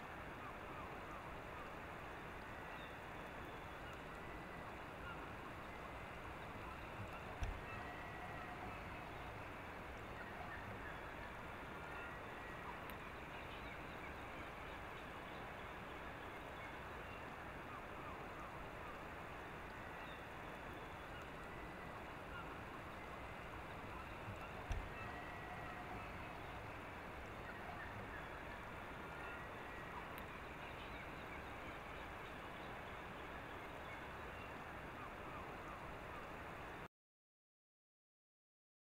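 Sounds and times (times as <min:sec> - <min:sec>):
distant bird calls: 0:00.3 - 0:36.4.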